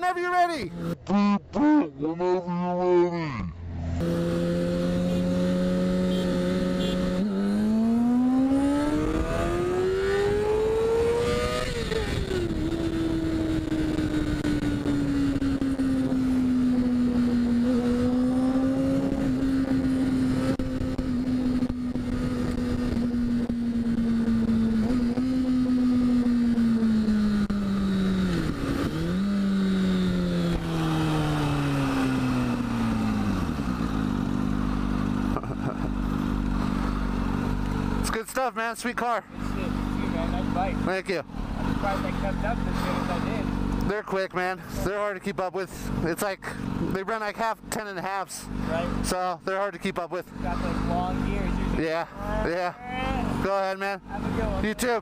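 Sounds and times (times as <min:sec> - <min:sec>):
motorcycle engine revving: 0:00.6 - 0:01.2, 0:03.4 - 0:55.0.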